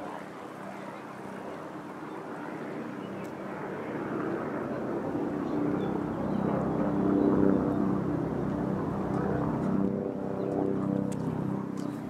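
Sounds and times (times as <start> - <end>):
distant engine hum: 0.0 - 12.0.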